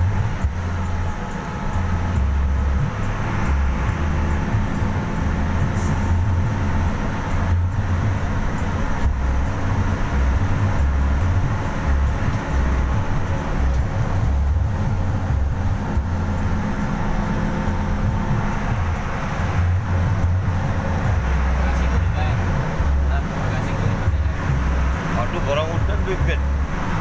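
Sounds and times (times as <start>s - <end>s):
vehicle engine and road rumble: 0.0s - 27.0s.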